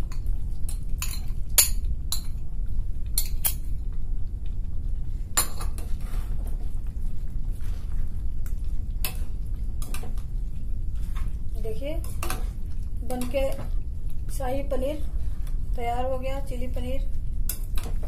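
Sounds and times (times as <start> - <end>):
steady low rumble: 0.0 - 17.8.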